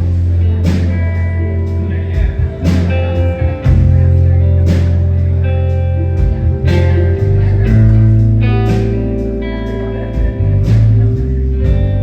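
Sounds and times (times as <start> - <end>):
guitar playing: 0.0 - 12.0
held bass notes: 0.0 - 12.0.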